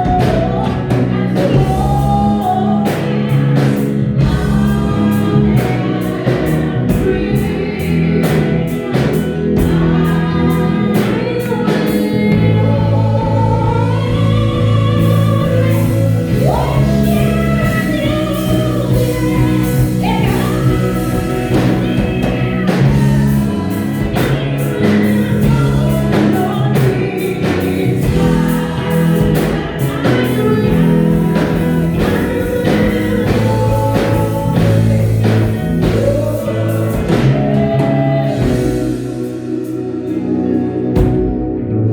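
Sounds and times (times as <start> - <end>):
steady drum beat: 0.0 - 39.5
choir singing: 0.0 - 41.4
bass: 0.0 - 41.9
keyboard: 0.0 - 41.9.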